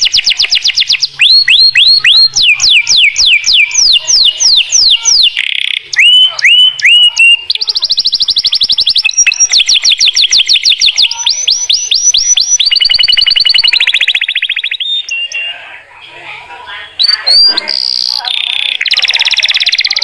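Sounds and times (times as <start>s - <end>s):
canary singing: 0.0s - 16.0s, 16.7s - 20.0s.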